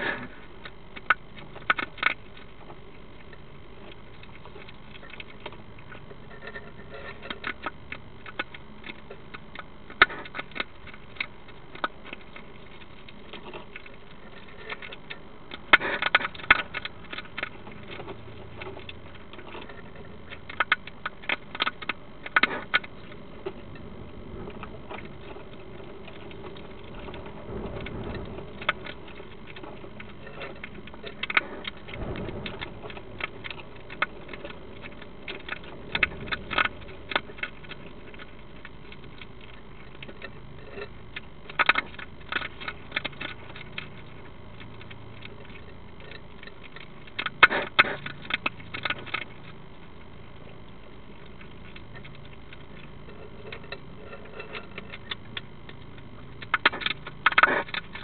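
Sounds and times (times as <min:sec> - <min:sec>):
hedgehog crunching food: 0:00.0 - 0:58.0.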